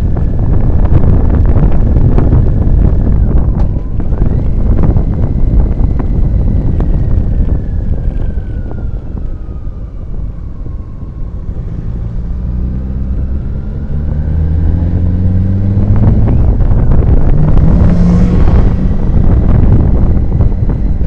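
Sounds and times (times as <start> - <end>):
motorcycle engine: 0.0 - 21.0
wind buffeting microphone: 0.0 - 21.0.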